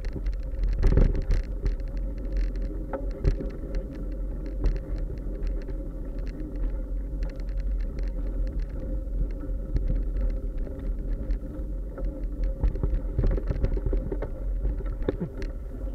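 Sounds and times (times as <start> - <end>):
wind rumble on camera: 0.0 - 15.9.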